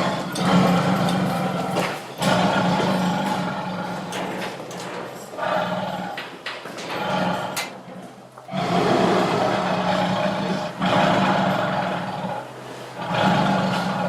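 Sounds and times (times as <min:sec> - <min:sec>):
tiger growling and roaring: 0:00.0 - 0:14.0.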